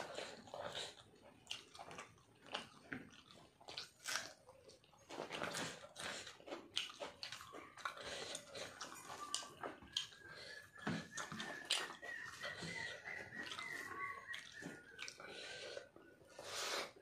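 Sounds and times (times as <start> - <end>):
wet chewing and mouth smacks: 0.0 - 17.0.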